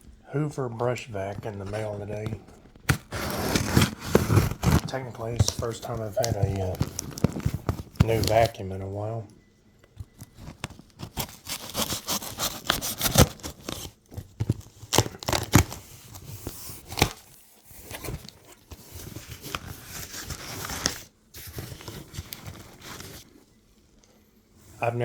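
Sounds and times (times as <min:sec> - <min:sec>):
packaging tearing and crinkling: 0:01.3 - 0:08.6, 0:10.1 - 0:23.3.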